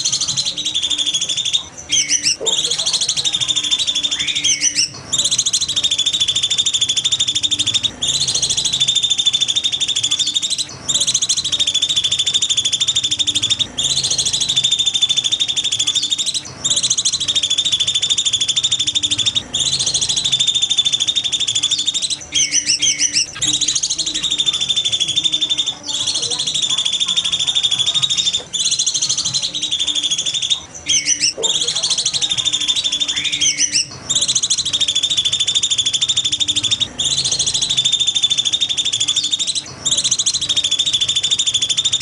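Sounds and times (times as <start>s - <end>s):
songbird buzzy trill: 0.0s - 42.0s.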